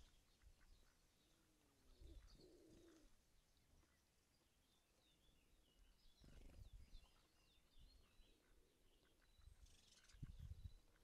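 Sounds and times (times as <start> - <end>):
songbirds twittering: 0.0 - 11.0.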